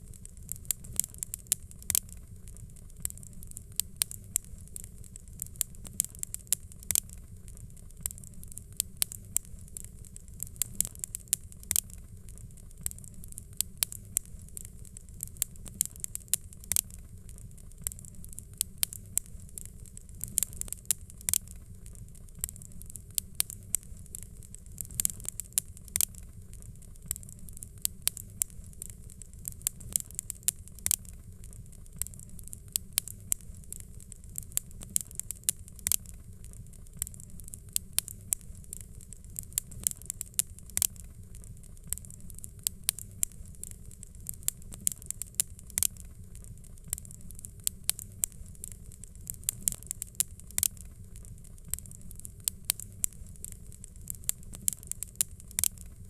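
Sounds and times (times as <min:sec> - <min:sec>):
fire popping and snapping: 0:00.0 - 0:56.0
low rumble of flames: 0:00.0 - 0:56.0.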